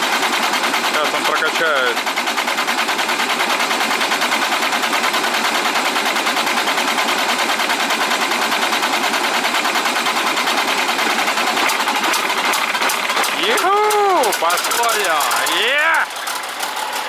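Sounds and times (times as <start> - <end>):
starter motor cranking diesel engine: 0.0 - 17.0.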